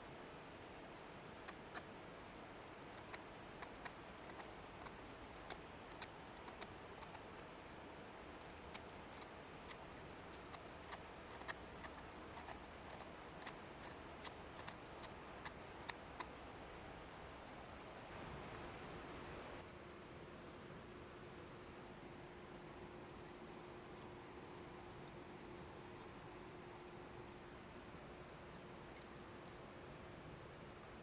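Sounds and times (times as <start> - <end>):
faint steady hiss: 0.0 - 31.0.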